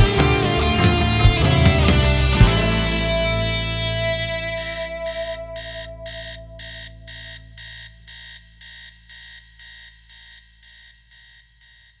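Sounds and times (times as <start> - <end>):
alarm clock beeping: 0.0 - 12.0.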